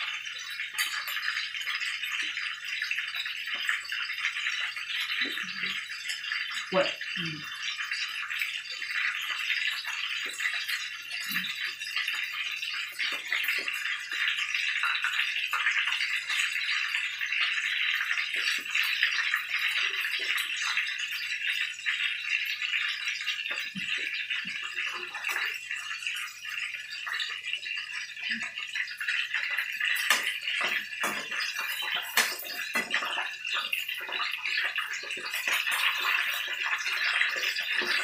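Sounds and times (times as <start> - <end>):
food deep-frying in oil: 0.0 - 38.0.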